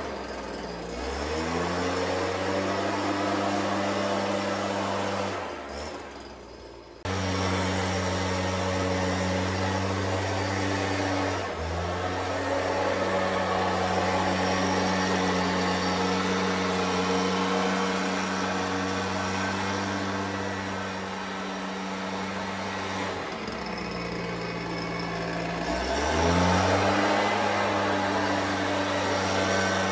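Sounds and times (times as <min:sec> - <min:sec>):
leaf blower engine running: 0:00.0 - 0:29.9.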